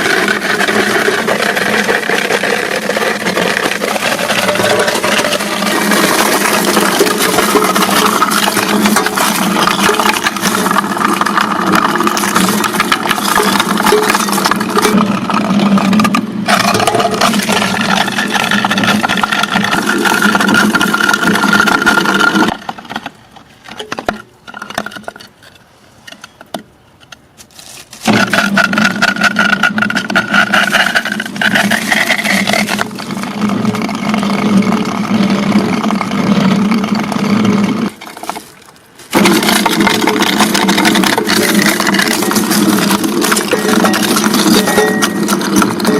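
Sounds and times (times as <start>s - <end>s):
ice crushing machine grinding: 0.0s - 25.2s, 28.0s - 45.9s.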